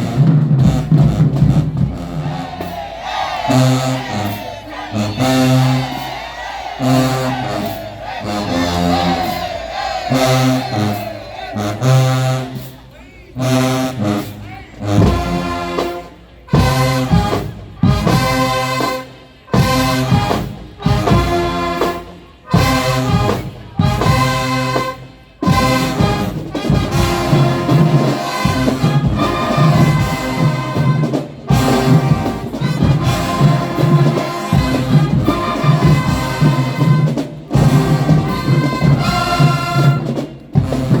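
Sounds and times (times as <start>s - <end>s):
brass section playing chords: 0.0s - 41.0s.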